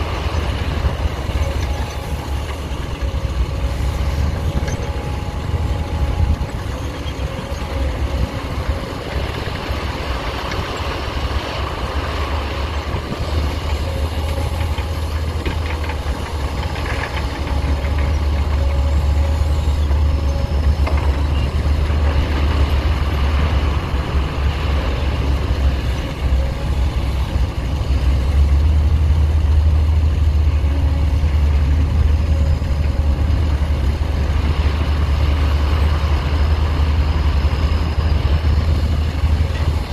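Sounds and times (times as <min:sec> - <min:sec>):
heavy diesel engine rumbling: 0:00.0 - 0:39.9.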